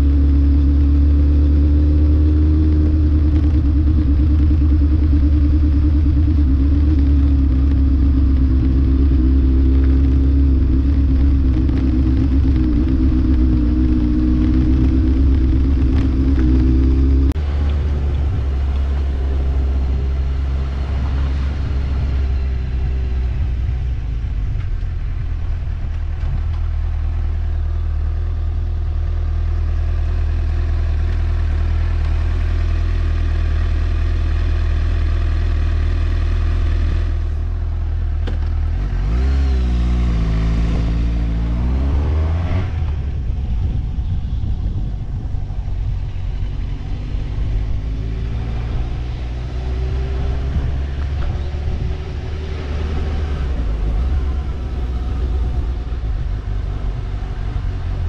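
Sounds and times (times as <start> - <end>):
road noise: 0.0 - 58.0
vehicle engine running: 0.0 - 58.0.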